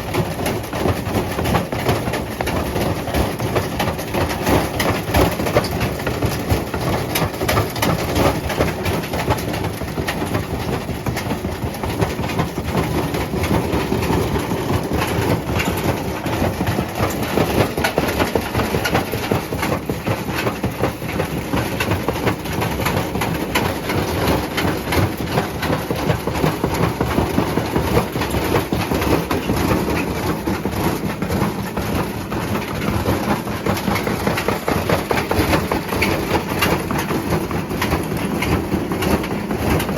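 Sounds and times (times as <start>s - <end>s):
washing machine drum clattering: 0.0s - 39.9s.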